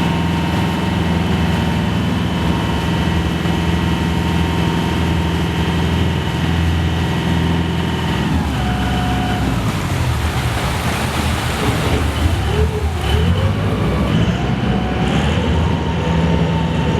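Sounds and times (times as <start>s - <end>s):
ferry diesel engine running: 0.0s - 16.9s.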